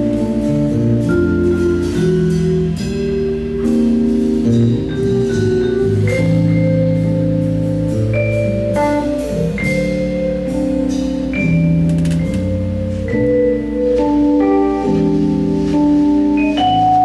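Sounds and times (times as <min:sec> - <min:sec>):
drum kit cymbals: 0:00.0 - 0:17.0
electric keyboard chords: 0:00.0 - 0:17.0
vibraphone melody: 0:00.0 - 0:17.0.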